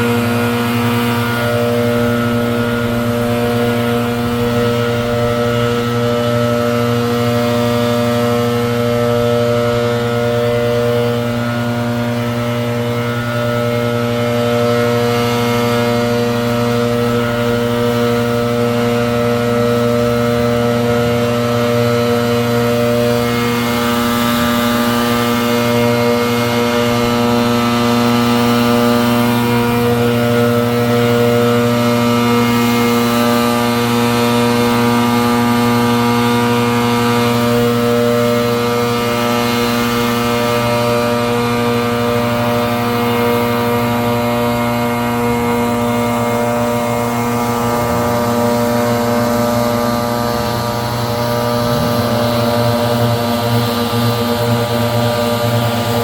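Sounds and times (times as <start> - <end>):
leaf blower running: 0.0 - 56.0.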